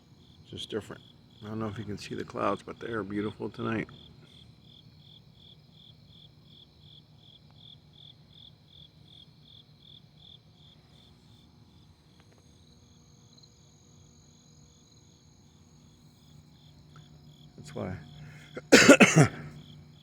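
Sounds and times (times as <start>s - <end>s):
crickets chirping: 0.0s - 20.0s
faint low hum: 0.0s - 20.0s.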